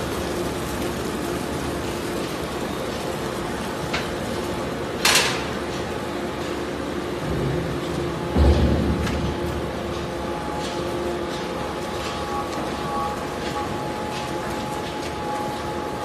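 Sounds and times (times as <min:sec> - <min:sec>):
conveyor machinery hum: 0:00.0 - 0:16.0.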